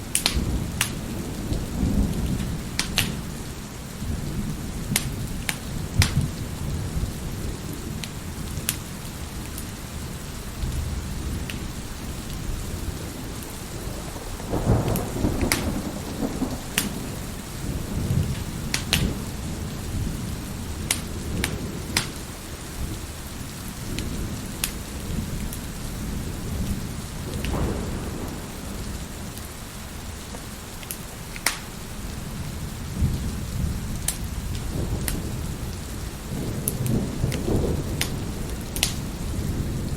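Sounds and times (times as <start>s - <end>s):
heavy rain: 0.0s - 39.9s
low rolling thunder: 0.0s - 39.9s
wood fire crackling: 0.0s - 39.9s.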